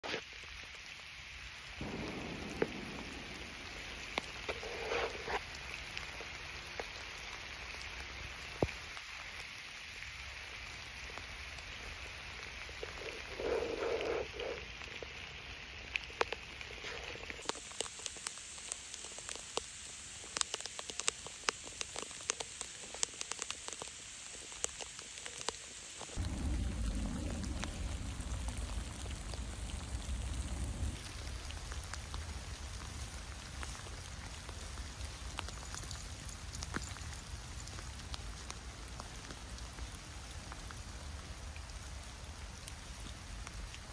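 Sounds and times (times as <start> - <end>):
gentle rain pattering: 0.0 - 43.9
raindrops ticking close by: 0.2 - 43.9.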